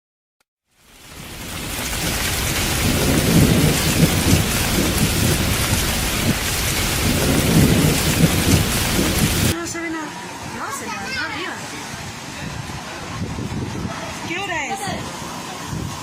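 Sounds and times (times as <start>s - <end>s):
heavy rain pouring: 0.7s - 16.0s
strong gusting wind: 0.9s - 16.0s.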